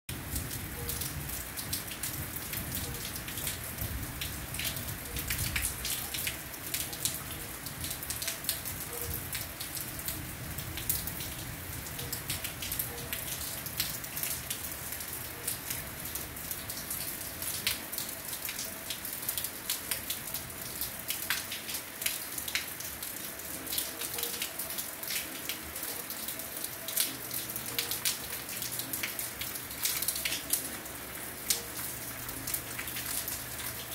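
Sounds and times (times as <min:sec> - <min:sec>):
heavy rain falling: 0:00.1 - 0:33.9
raindrops tapping surfaces: 0:00.1 - 0:33.9.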